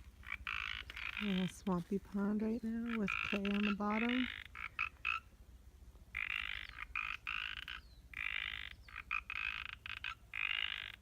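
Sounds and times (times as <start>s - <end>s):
frogs croaking: 0.0s - 5.4s, 6.1s - 11.0s.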